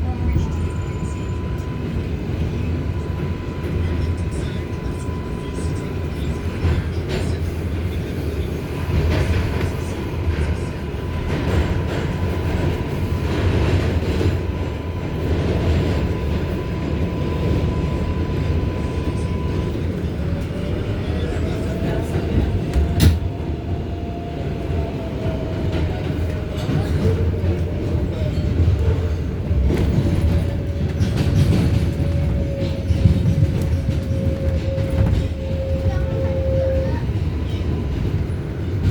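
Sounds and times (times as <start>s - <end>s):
wheels rumbling on rail: 0.0s - 38.9s.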